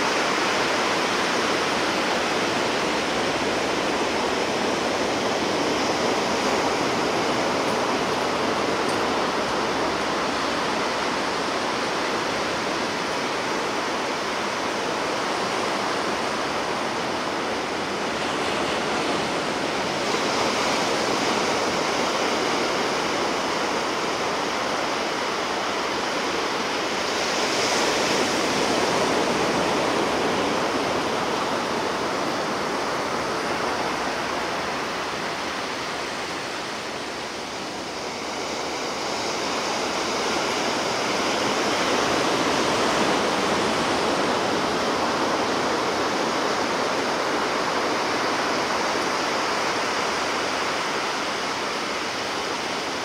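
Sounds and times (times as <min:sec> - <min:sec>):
sea waves washing ashore: 0:00.0 - 0:53.0.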